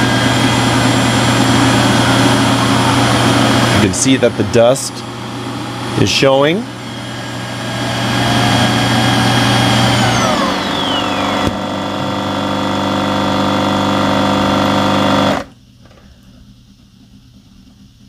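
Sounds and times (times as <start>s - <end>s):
vacuum suction motor whine: 0.0s - 15.6s.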